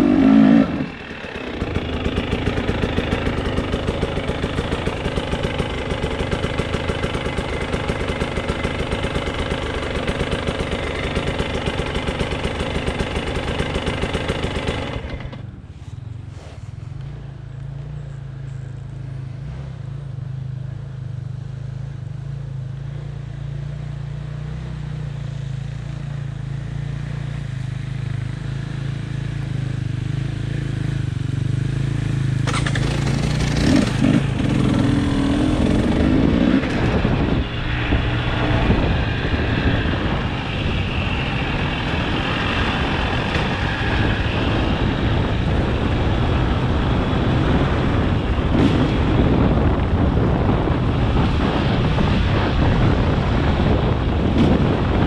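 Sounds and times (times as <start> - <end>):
off-road vehicle engine: 0.0 - 55.0
wind and riding noise: 0.0 - 55.0.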